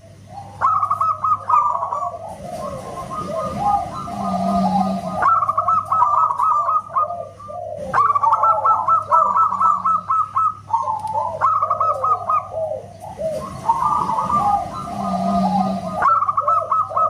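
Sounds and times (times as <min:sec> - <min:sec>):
doves cooing: 0:00.0 - 0:17.0.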